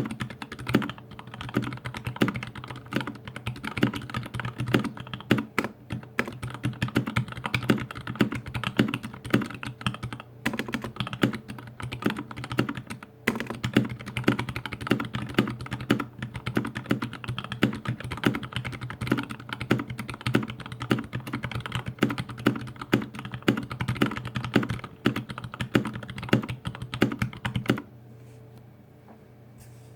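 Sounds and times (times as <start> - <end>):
mechanical keyboard typing: 0.0 - 27.9
faint low hum: 0.0 - 29.9.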